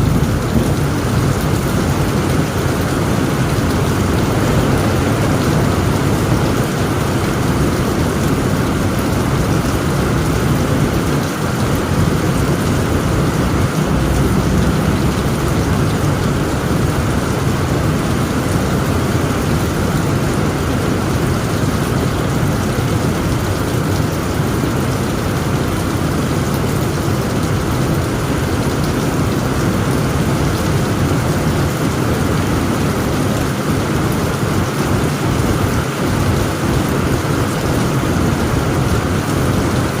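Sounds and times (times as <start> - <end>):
continuous low rumble: 0.0 - 40.0
heavy rain on a tent roof: 0.0 - 40.0.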